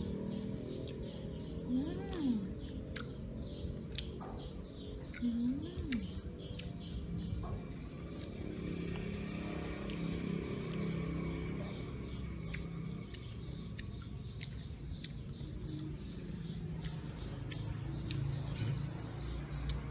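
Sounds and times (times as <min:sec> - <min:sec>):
bird chirping: 0:00.0 - 0:19.9.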